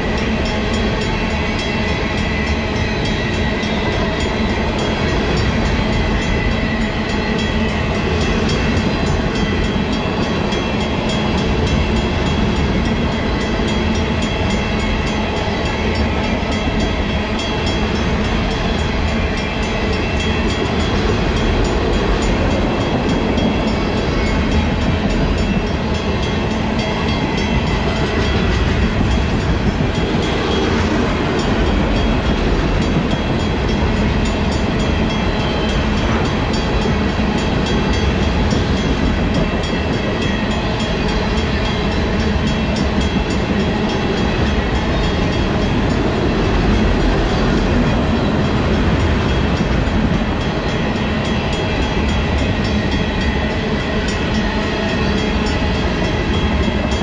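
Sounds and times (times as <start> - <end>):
crossing bell ringing: 0.0 - 57.0
freight train rumbling past: 0.0 - 57.0.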